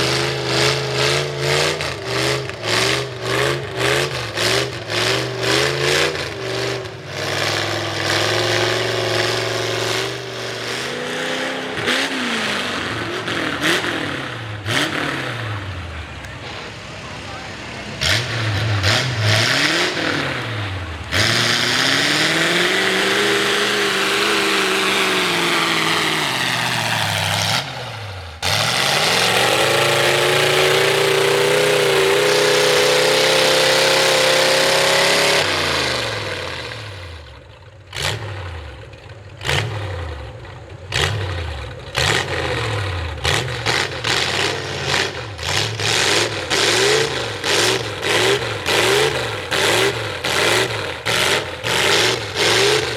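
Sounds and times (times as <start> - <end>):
truck engine revving hard: 0.0 - 52.9.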